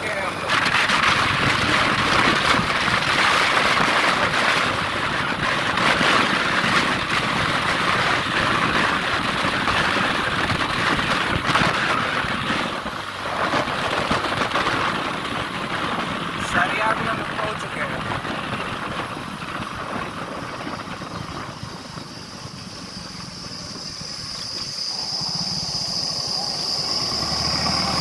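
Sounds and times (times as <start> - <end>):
motorbike road noise: 0.0 - 28.0
wind buffeting microphone: 0.0 - 28.0
wind rush: 0.0 - 28.0.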